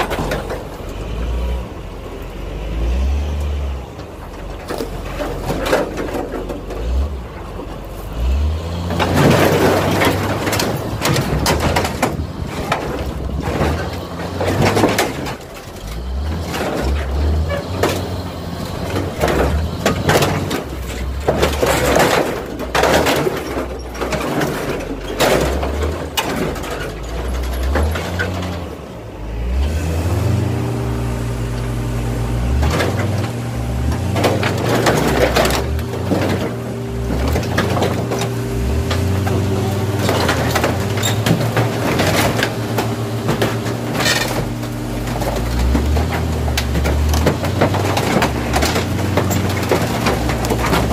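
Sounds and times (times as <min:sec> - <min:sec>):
sheet metal crunching and banging: 0:00.0 - 0:01.4, 0:04.0 - 0:28.8, 0:31.6 - 0:50.9
wheel loader engine revving: 0:00.0 - 0:50.9.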